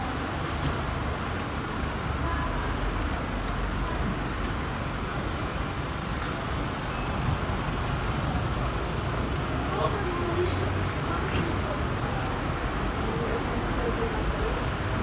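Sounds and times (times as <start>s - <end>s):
rumbling vehicle noise: 0.0s - 15.0s.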